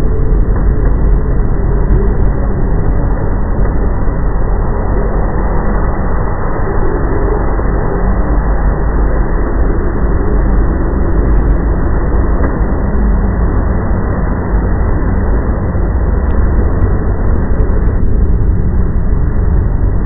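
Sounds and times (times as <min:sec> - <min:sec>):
low rumbling drone: 0:00.0 - 0:20.0.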